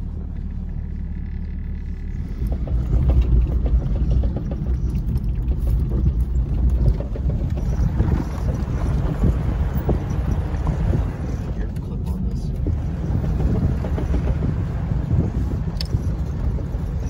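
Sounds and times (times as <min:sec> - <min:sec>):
engine and road rumble: 0:00.0 - 0:17.0
knocks and rattles from bumps: 0:00.1 - 0:11.8, 0:12.4 - 0:17.0.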